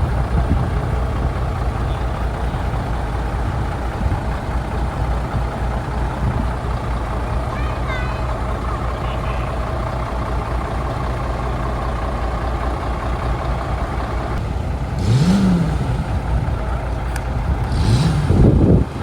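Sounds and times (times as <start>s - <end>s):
truck engine rumbling and revving: 0.0s - 19.0s.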